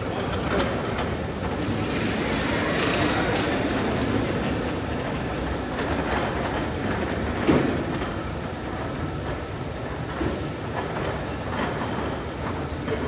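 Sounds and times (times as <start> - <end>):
conveyors and machinery running: 0.0 - 13.0.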